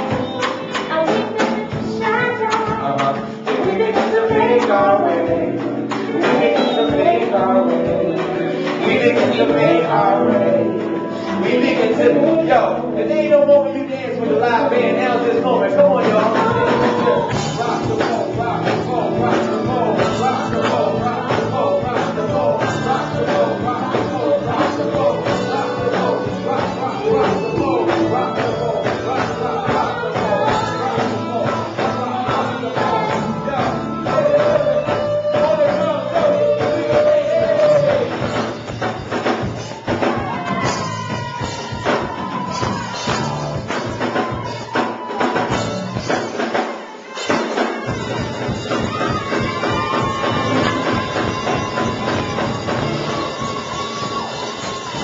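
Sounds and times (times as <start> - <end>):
drum kit and bass groove: 0.0 - 13.7, 14.3 - 55.0
man and woman singing: 0.0 - 46.2, 47.0 - 55.0.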